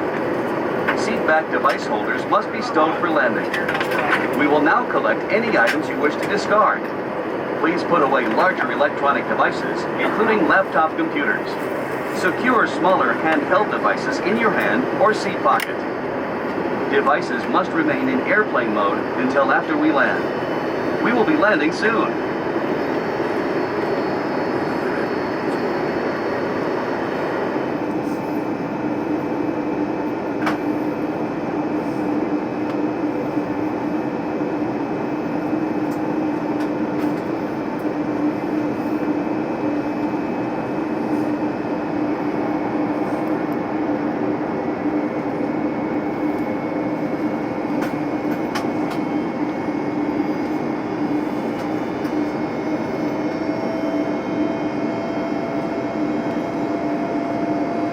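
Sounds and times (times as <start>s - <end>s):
airplane cabin airflow rush: 0.0s - 57.9s
jet engine drone: 0.0s - 57.9s.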